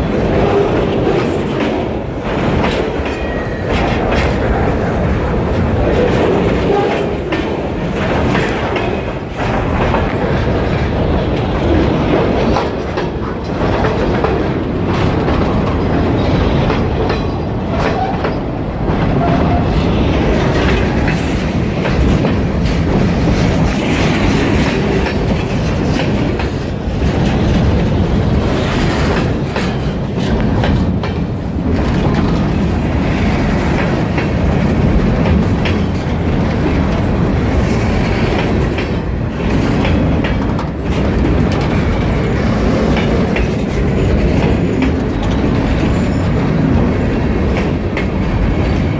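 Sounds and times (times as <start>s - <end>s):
freight train wheels clattering: 0.0s - 48.9s.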